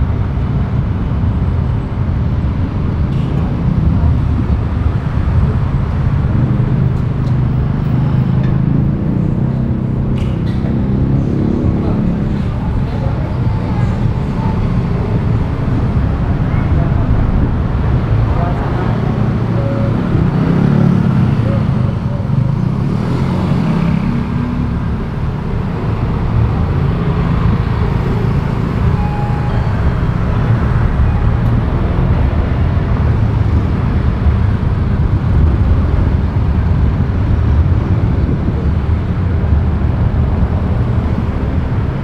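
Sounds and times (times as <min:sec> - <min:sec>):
traffic engines and tyres rumbling: 0:00.0 - 0:42.0.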